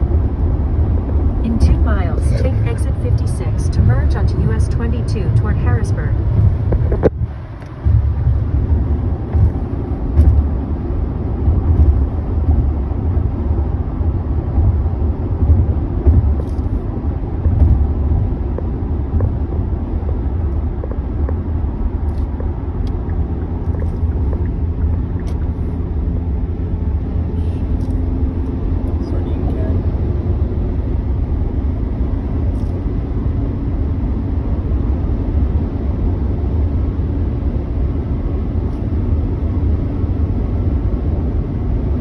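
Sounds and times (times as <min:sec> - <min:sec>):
vehicle cabin road rumble: 0:00.0 - 0:42.0.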